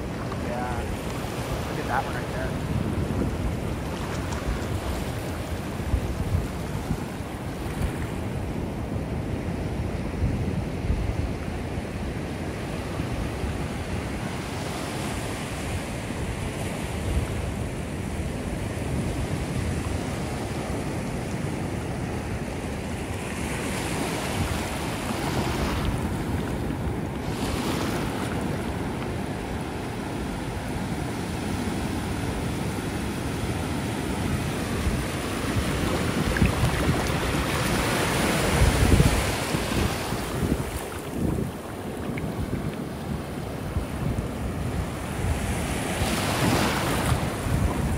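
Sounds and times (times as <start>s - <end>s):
wind buffeting microphone: 0.0s - 14.4s, 21.4s - 47.9s
surf breaking on a beach: 0.0s - 47.9s.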